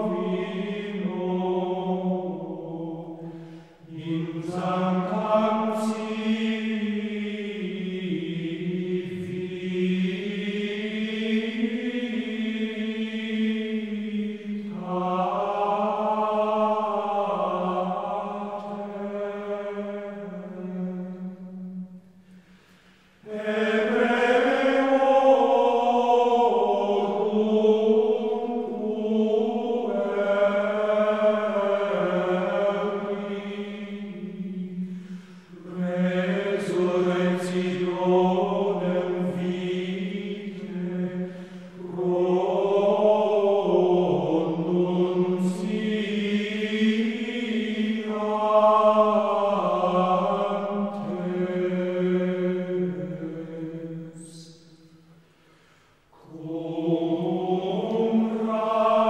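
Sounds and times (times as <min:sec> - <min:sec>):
voices chanting a slow melody: 0:00.0 - 0:59.0.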